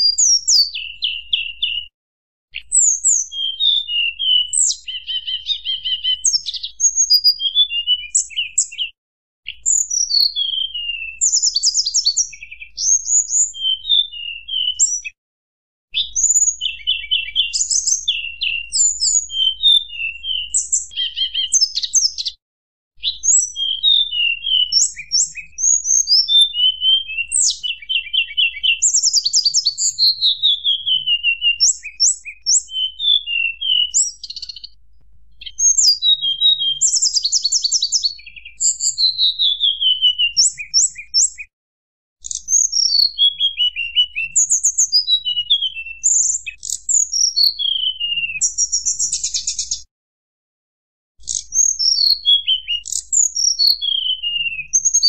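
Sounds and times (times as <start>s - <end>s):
bird singing whistled phrases and trills: 0.0s - 1.9s, 2.6s - 15.2s, 15.9s - 22.4s, 23.0s - 34.8s, 35.4s - 41.5s, 42.2s - 49.9s, 51.2s - 55.0s.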